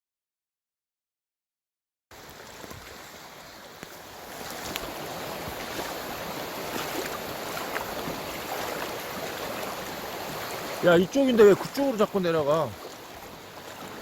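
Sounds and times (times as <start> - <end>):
stream rushing over rocks: 2.1 - 14.0.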